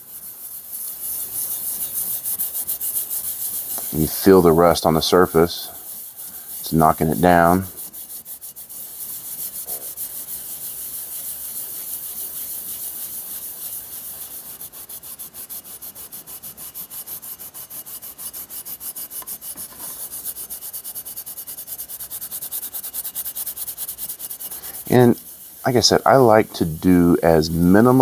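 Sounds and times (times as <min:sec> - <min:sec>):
abrasive pad scrubbing steel: 0:00.0 - 0:28.0.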